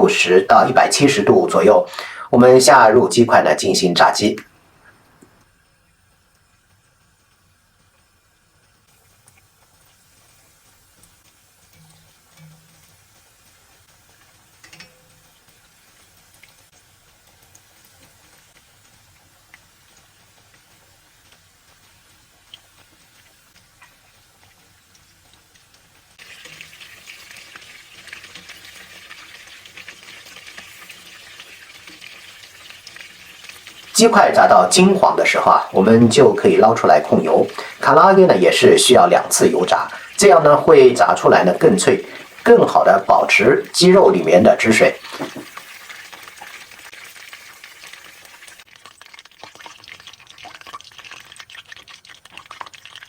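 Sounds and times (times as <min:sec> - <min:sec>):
chicken deep-frying in oil: 0:00.0 - 0:53.0.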